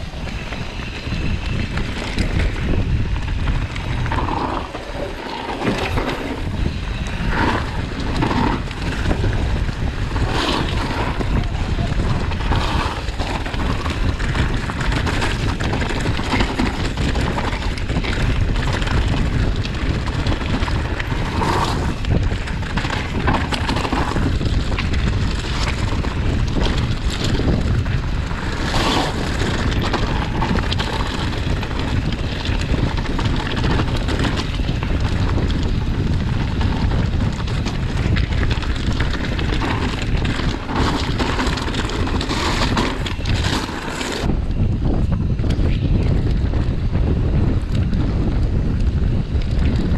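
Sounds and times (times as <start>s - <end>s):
bike tyres crunching on rocky trail: 0.0s - 49.9s
wind rumbling on microphone: 0.0s - 49.9s.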